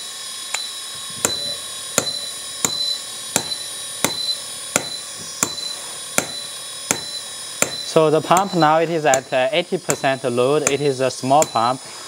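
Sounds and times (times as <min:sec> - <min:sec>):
hydraulic pump whine: 0:00.0 - 0:12.0
breaker hammer knocks: 0:01.2 - 0:11.7.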